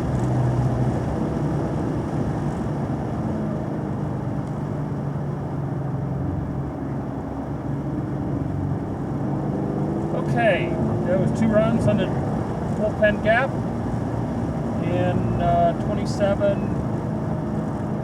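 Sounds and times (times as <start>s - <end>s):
car engine cruising: 0.0s - 18.0s
road noise: 0.0s - 18.0s.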